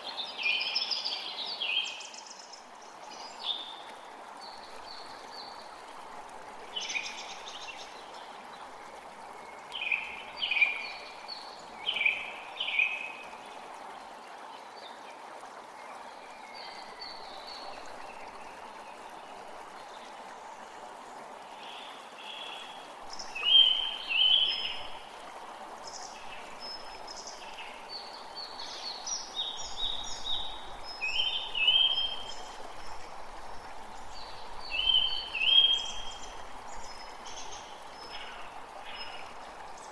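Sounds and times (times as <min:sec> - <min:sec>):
creek running: 0:00.0 - 0:39.9
songbirds chirping: 0:00.0 - 0:39.9.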